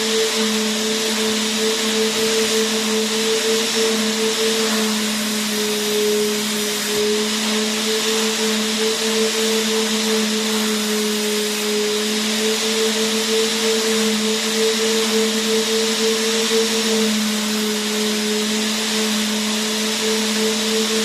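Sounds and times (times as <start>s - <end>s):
vacuum cleaner motor running: 0.0s - 21.0s.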